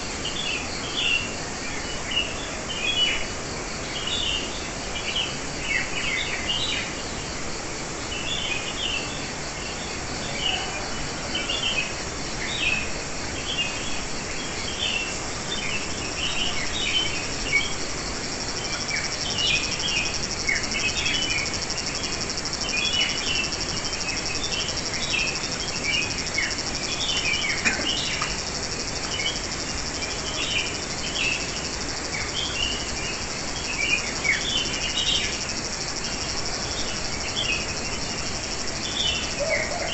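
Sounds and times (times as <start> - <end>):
high insect trill: 0.0 - 39.9
songbirds chirping: 0.1 - 39.9.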